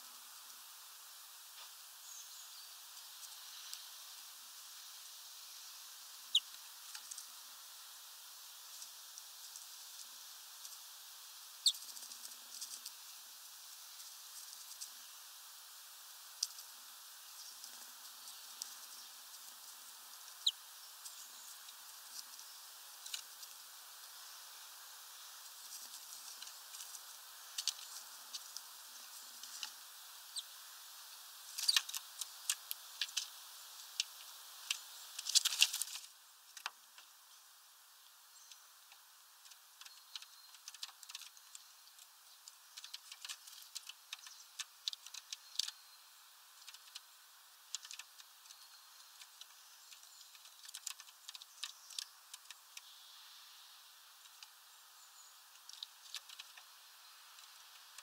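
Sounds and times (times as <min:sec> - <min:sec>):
birds pecking at feeder: 0:05.5 - 0:07.8, 0:08.6 - 0:37.1, 0:38.5 - 0:45.9, 0:46.5 - 0:53.2, 0:55.5 - 0:58.0.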